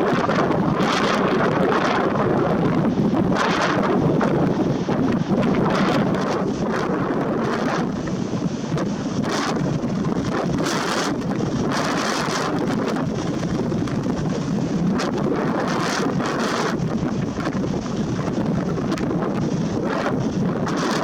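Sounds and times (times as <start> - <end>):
storm wind blowing hard: 0.0 - 21.0.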